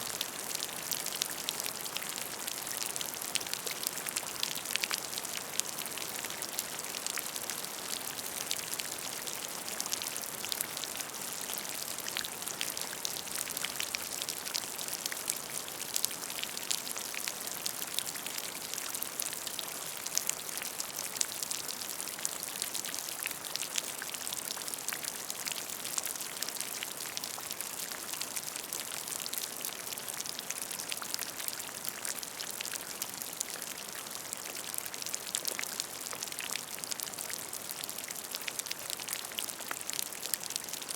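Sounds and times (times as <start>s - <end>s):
rain falling into puddle: 0.0s - 40.9s.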